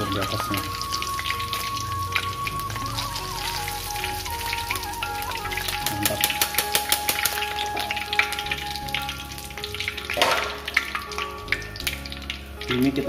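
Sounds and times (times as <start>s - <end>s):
hot oil crackling and sizzling: 0.0s - 13.0s.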